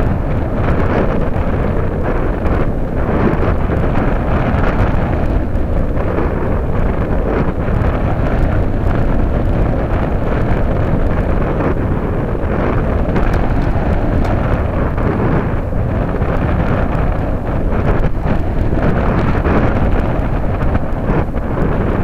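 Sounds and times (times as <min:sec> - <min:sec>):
wind roar on microphone: 0:00.0 - 0:22.0.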